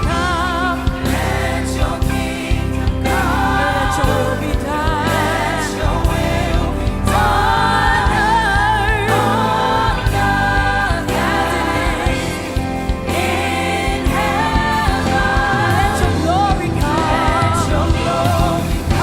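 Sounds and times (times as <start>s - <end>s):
band with drums and bass: 0.0s - 19.0s
people singing together: 0.0s - 19.0s.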